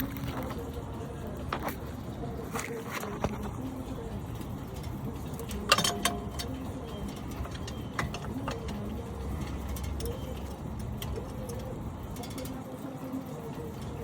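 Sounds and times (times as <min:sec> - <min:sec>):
tools and brake parts handled: 0:00.0 - 0:12.6
low background noise: 0:00.0 - 0:14.0.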